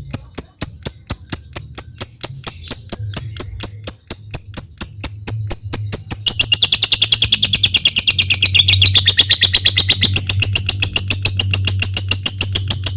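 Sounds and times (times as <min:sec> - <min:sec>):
lovebird chattering: 0:00.0 - 0:12.9.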